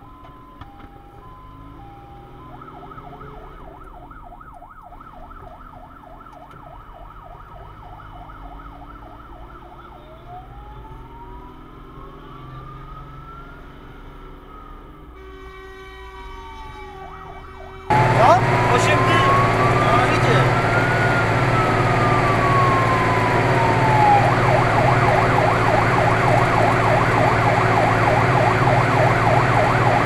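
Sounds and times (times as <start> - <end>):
fire engine electronic siren: 0.0 - 30.0
truck engine and road rumble: 0.0 - 30.0.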